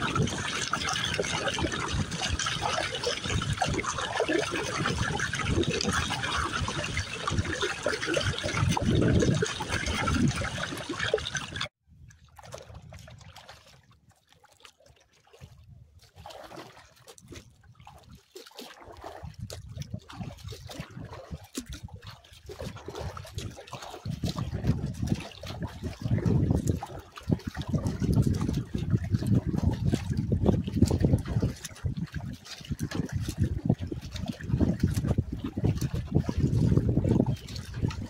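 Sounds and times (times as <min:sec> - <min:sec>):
wind rumbling on microphone: 0:00.0 - 0:13.4, 0:19.1 - 0:38.0
paddle strokes splashing water: 0:00.0 - 0:38.0
water lapping against hull: 0:00.0 - 0:38.0.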